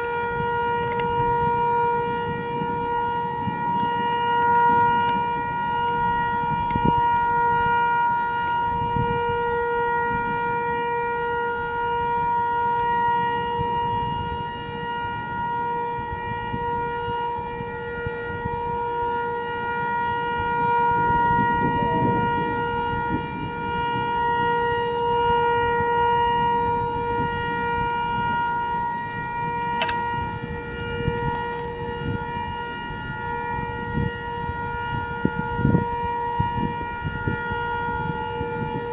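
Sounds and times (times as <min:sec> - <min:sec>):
tornado warning siren: 0:00.0 - 0:38.9
wind rumbling on microphone: 0:00.0 - 0:38.9.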